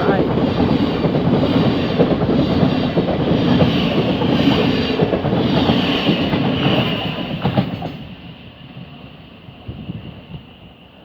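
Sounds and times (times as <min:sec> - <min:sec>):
rumble of train wheels on rail: 0:00.0 - 0:11.0.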